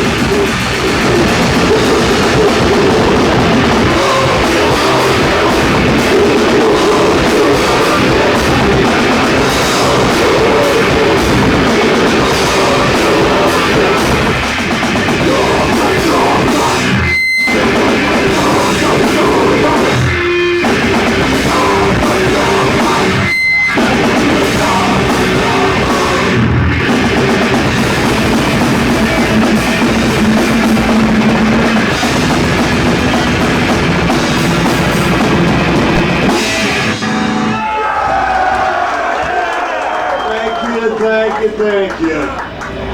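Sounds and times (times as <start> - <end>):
heavy metal band playing live: 0.0 - 38.6
distorted electric guitars: 0.0 - 39.3, 40.1 - 42.9
pounding drum kit: 0.0 - 42.9.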